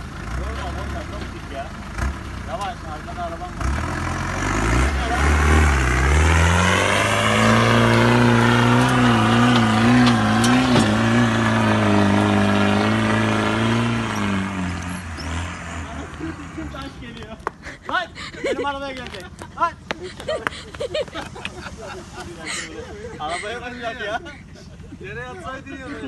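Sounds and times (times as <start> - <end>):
diesel engine pulling hard: 0.0 - 26.0.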